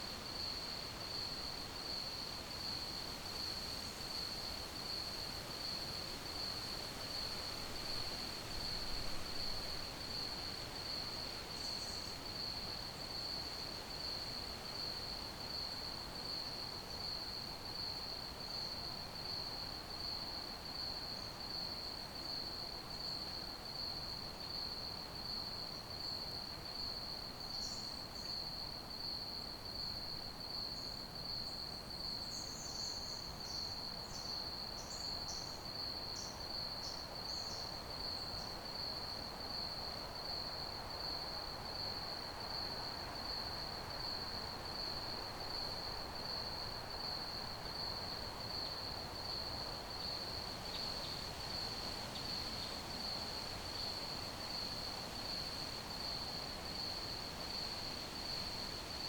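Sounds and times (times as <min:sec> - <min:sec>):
background hiss: 0:00.0 - 0:59.0
crickets chirping: 0:00.0 - 0:59.0.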